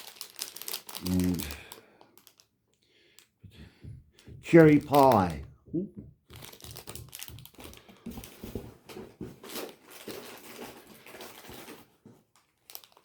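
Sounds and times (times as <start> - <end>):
plastic wrappers crinkling: 0.0 - 5.5, 6.2 - 13.0.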